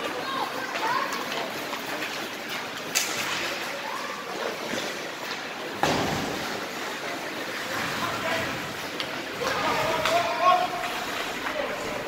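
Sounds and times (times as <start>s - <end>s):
crowd noise: 0.0s - 12.0s
skates on ice: 0.0s - 12.0s.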